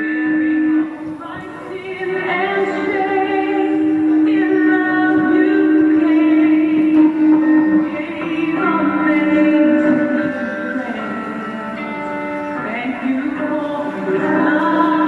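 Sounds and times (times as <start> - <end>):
held accompanying notes: 0.0 - 15.0
woman singing: 0.0 - 15.0.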